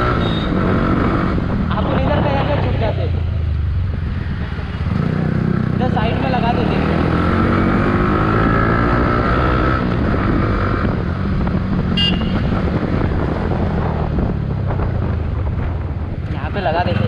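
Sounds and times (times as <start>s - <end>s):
motorcycle engine: 0.0s - 17.0s
road and wind noise: 0.0s - 17.0s.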